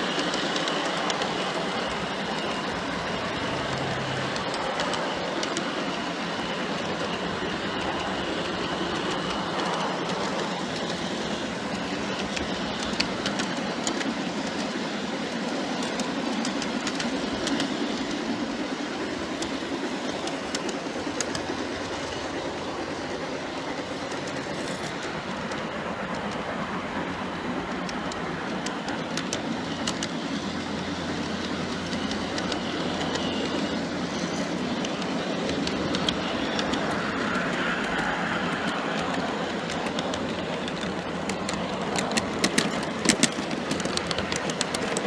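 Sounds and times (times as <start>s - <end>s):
model train cars rolling on track: 0.0s - 45.0s
wheels clicking over rail joints: 0.0s - 45.0s.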